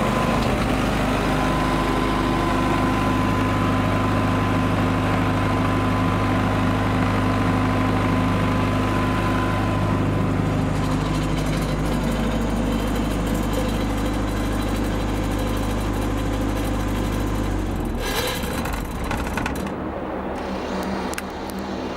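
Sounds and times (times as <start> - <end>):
diesel generator running: 0.0 - 21.9.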